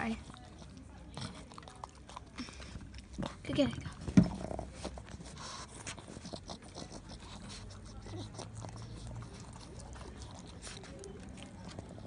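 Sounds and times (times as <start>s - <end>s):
dog licking rubber toy: 0.0s - 12.0s.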